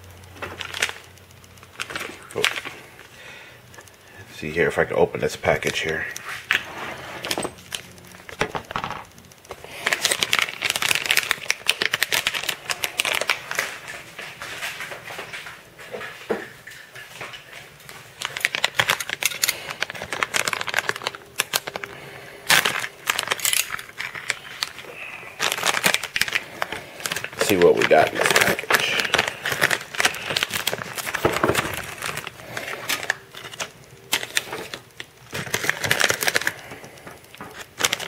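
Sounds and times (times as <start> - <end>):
plastic packaging crinkling: 0.1 - 38.0.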